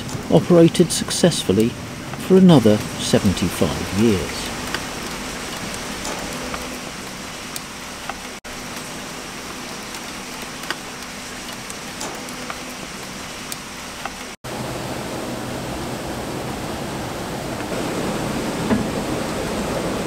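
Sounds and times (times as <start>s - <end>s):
rain and running water: 0.0s - 20.0s.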